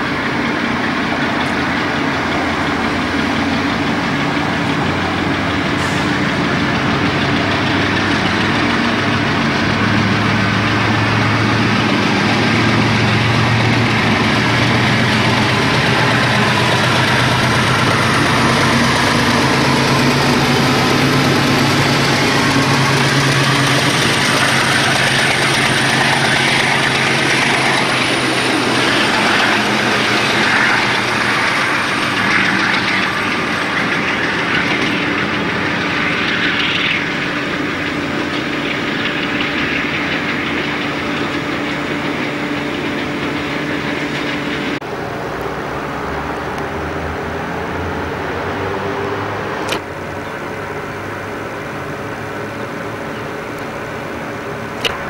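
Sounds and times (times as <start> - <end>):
diesel locomotive engine: 0.0 - 55.0
rail and coach noise: 0.0 - 55.0.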